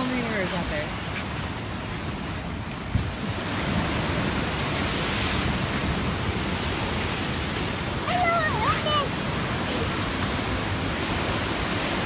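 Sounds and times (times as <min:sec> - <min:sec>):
ocean surf washing in: 0:00.0 - 0:12.0
wind on microphone: 0:00.0 - 0:12.0.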